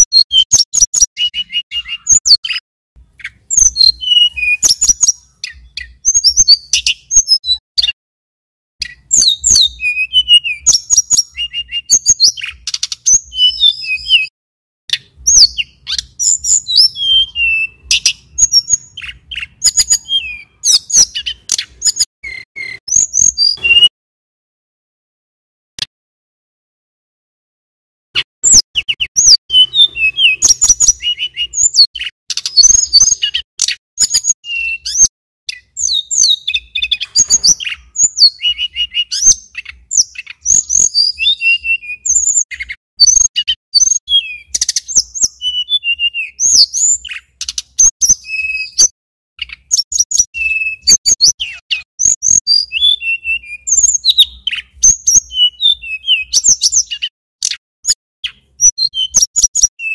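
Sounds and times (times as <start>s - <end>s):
bird singing chirps and trills: 0.0s - 8.0s, 8.8s - 14.3s, 14.9s - 23.9s, 28.2s - 59.9s.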